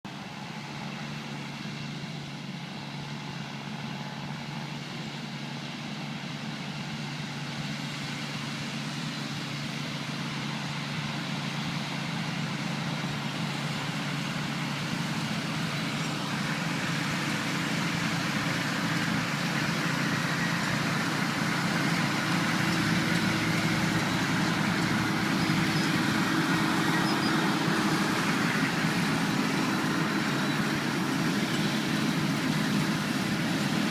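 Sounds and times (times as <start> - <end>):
tractor engine and baler running: 0.0 - 33.9.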